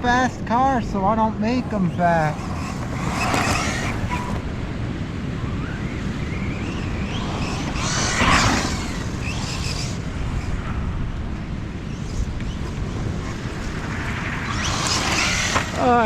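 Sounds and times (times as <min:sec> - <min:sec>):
wind buffeting microphone: 0:00.0 - 0:16.0
electric motor whine: 0:01.4 - 0:16.0.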